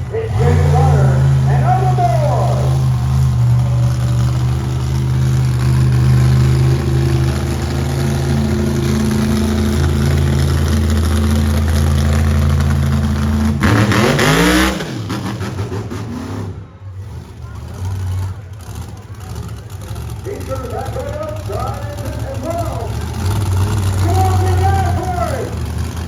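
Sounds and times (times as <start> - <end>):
large vehicle engine revving: 0.0 - 26.0.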